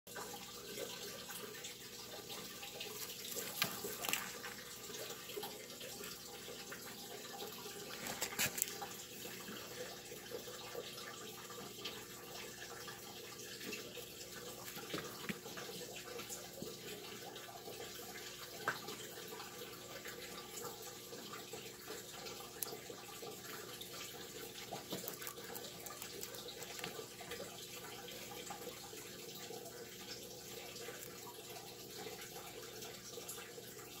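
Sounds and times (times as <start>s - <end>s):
rabbit chewing hay: 0.8s - 33.4s.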